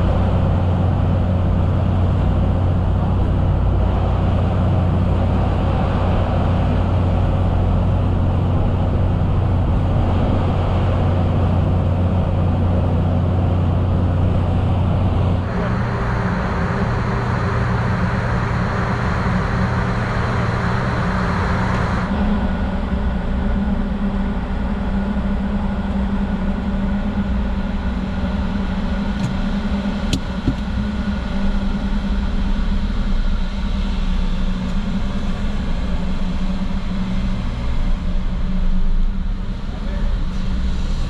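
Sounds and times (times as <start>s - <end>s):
car engine and road hum: 0.0s - 41.0s.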